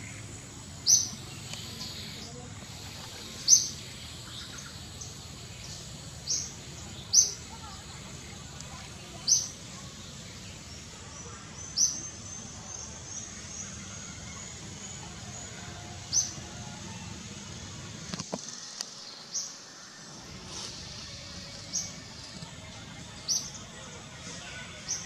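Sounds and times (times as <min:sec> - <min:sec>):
low outdoor hum: 0:00.0 - 0:25.0.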